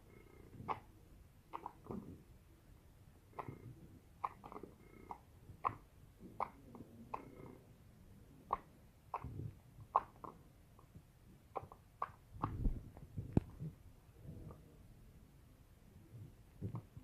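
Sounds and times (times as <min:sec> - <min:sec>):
soft low squelches: 0:00.0 - 0:17.0.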